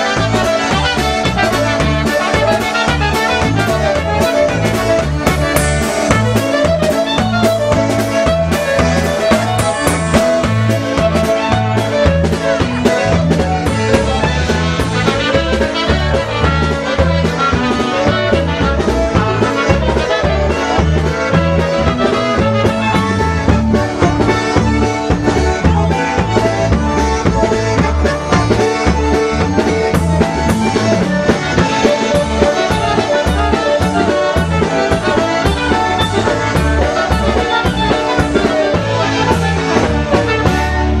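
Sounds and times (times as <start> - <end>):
accordion: 0.0 - 41.0
polka band playing: 0.0 - 41.0.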